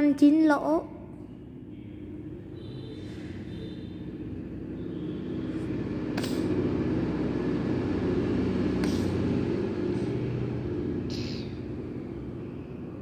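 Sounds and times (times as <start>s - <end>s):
low mechanical rumble: 0.9s - 13.0s.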